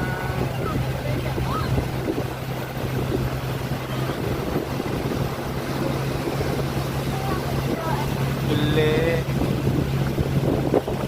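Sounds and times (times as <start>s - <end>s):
motorboat engine humming: 0.0s - 11.0s
rushing water: 0.0s - 11.0s
wind on microphone: 0.0s - 11.0s.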